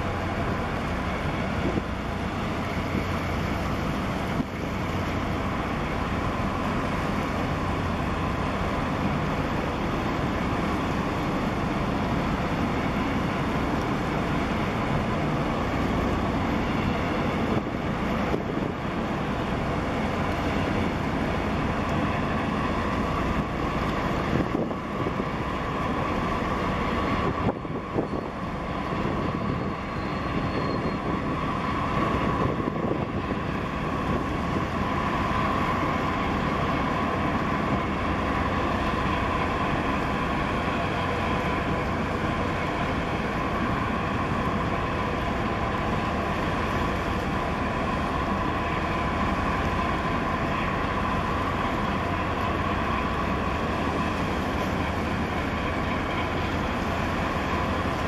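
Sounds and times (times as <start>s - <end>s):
marine engines rumbling: 0.0s - 58.0s
water noise: 0.0s - 58.0s
wind: 0.0s - 58.0s.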